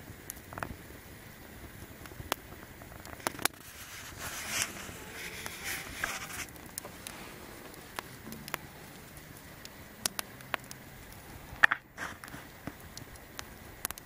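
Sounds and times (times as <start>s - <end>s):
campfire crackling: 0.0s - 14.0s
fire hissing: 0.0s - 14.0s.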